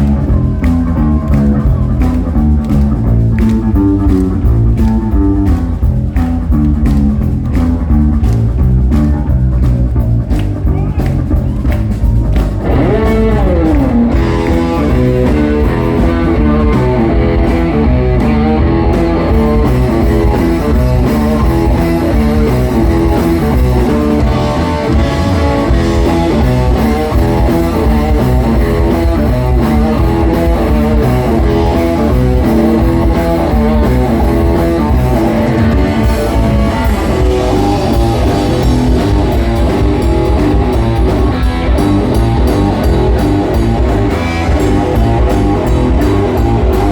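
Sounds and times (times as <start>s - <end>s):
blues rock band playing: 0.0s - 46.9s.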